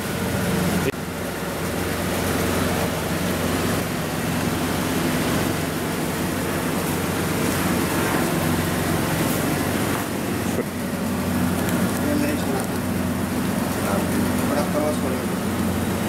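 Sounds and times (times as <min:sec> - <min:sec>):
kitchen equipment roaring and humming: 0:00.0 - 0:16.0.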